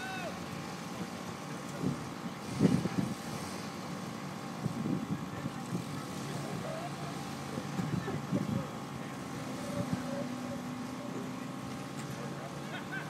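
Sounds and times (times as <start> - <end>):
truck engine revving under load: 0.0 - 13.0.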